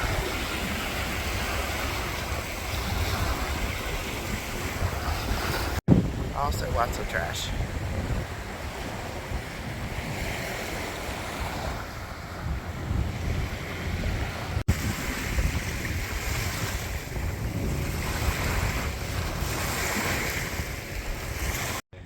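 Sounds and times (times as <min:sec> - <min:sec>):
surf washing on beach: 0:00.0 - 0:21.8
wind buffeting microphone: 0:00.0 - 0:21.8.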